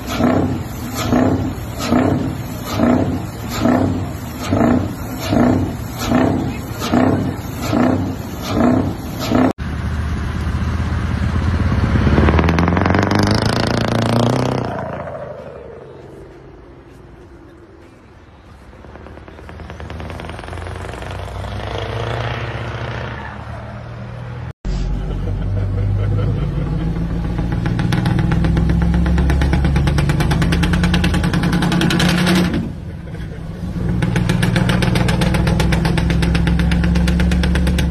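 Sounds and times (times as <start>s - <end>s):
truck pulling away under load: 0.0s - 16.6s, 18.4s - 23.7s, 24.3s - 37.9s
truck engine revving: 0.0s - 37.9s.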